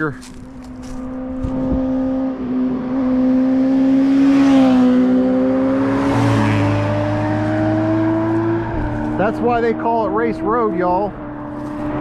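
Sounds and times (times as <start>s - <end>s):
motorcycle passing at speed: 0.5s - 12.0s.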